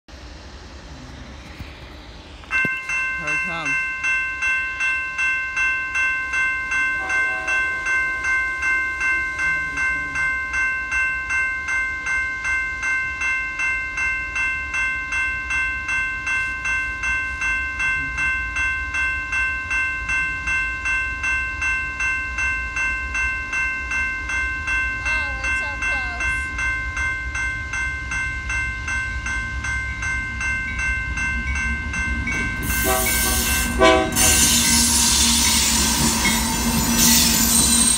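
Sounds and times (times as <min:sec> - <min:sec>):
railroad crossing bell ringing: 0:00.9 - 0:37.9.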